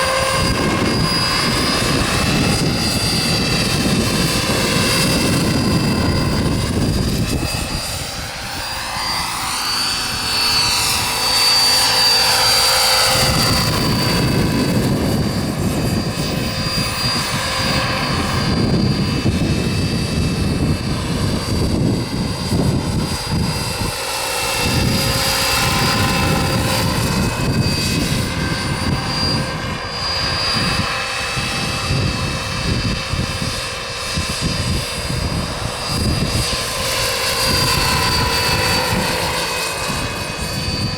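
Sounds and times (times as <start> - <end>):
helicopter rotor rushing: 0.0 - 40.9
turbine whine: 0.0 - 40.9.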